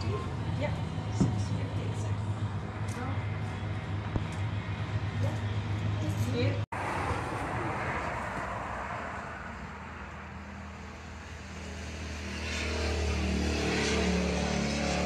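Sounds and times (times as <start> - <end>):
low engine hum: 0.0 - 15.0
road noise: 0.0 - 15.0.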